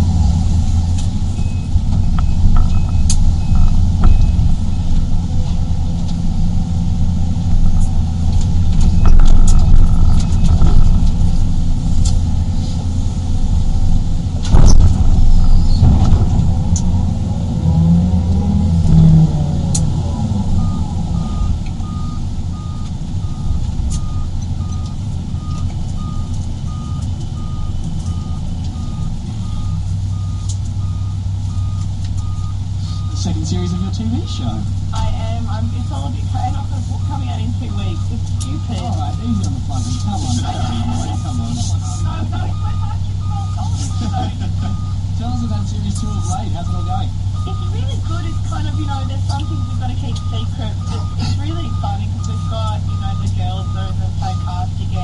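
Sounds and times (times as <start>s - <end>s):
excavator diesel engine running: 0.0s - 55.0s
reversing beeper: 1.3s - 11.6s, 14.5s - 55.0s.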